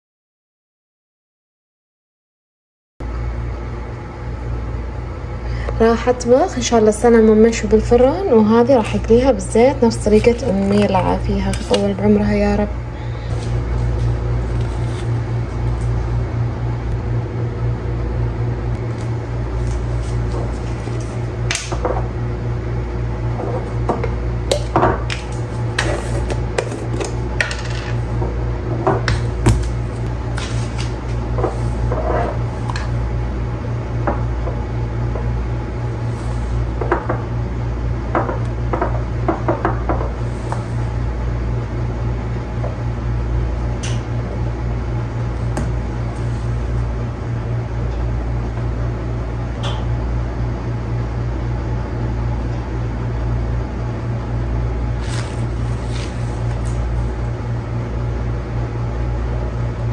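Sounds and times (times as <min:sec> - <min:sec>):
steady low hum: 0:03.0 - 0:59.9.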